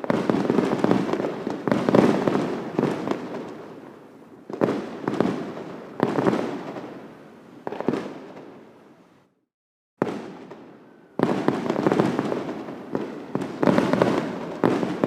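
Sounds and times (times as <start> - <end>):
fireworks bursting with rumble: 0.0 - 8.6, 10.0 - 15.0.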